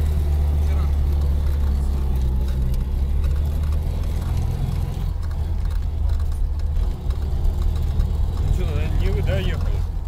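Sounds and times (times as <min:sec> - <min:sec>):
engine low drone: 0:00.0 - 0:10.0.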